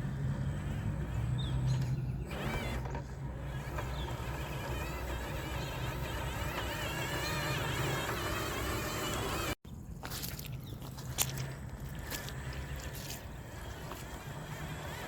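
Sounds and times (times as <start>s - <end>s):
electric motor whining: 0.0s - 9.6s, 11.2s - 15.0s.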